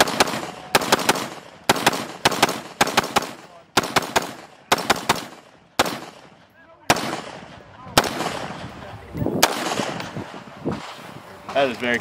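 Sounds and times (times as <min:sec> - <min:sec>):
rifle shots with echo: 0:00.0 - 0:11.0.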